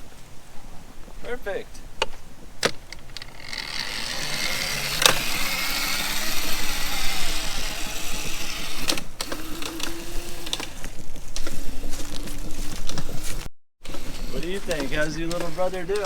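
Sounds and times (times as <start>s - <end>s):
electric dirt bike motor whining: 2.9s - 16.0s.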